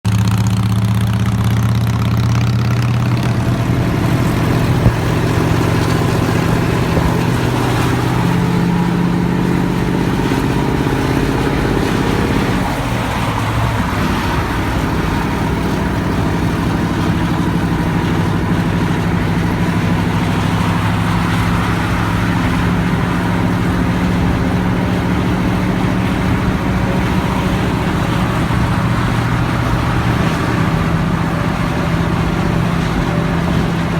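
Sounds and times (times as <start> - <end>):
bus diesel engine under load: 0.0 - 33.9.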